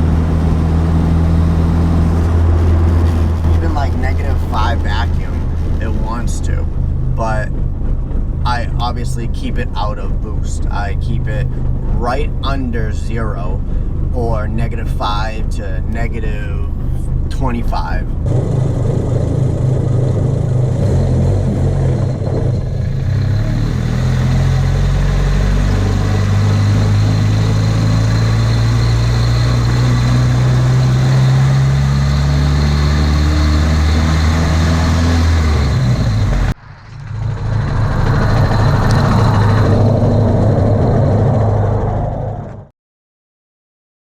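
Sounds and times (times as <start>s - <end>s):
car engine under light throttle: 0.0s - 41.8s.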